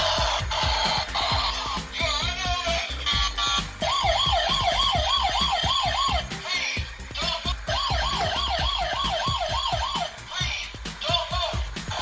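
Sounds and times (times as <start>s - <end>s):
toy siren wailing: 0.0s - 2.2s, 3.1s - 10.5s
tinny electronic music: 0.0s - 12.0s.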